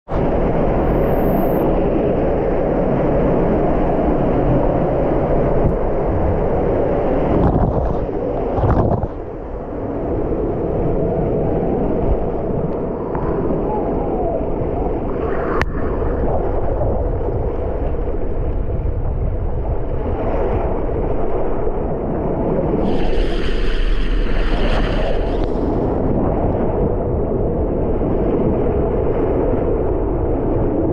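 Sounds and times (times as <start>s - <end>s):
wind buffeting microphone: 0.1s - 30.9s.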